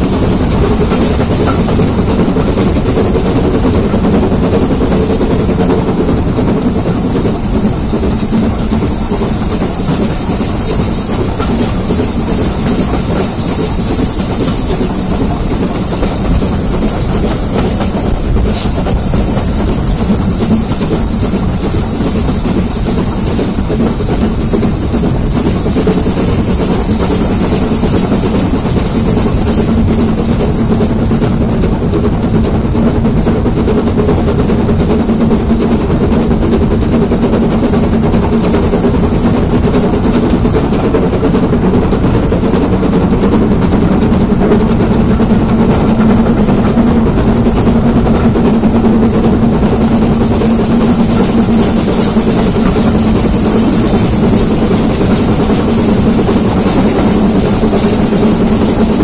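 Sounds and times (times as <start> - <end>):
train coaches rumbling on track: 0.0 - 59.0.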